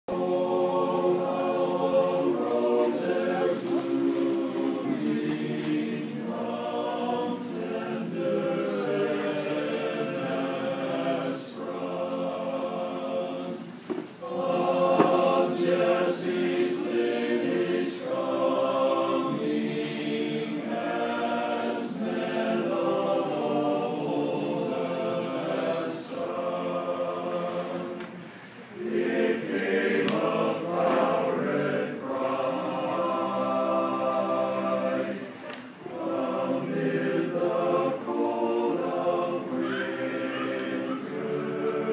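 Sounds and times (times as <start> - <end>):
men's chorus singing a cappella: 0.1 - 28.1, 28.8 - 41.9.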